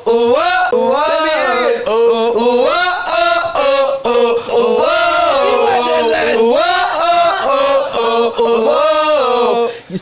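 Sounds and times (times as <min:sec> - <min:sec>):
man singing wordless notes: 0:00.0 - 0:10.0.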